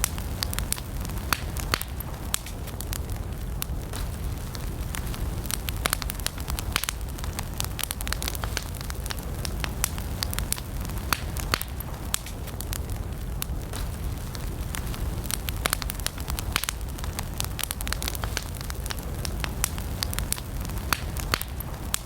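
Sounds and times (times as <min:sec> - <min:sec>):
campfire flames rumbling: 0:00.0 - 0:22.0
fire crackling and popping: 0:00.0 - 0:22.0.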